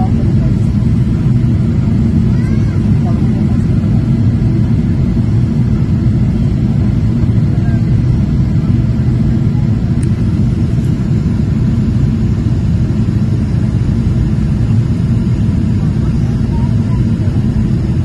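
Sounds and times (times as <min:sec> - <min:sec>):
jet engine rumble in cabin: 0:00.0 - 0:18.0.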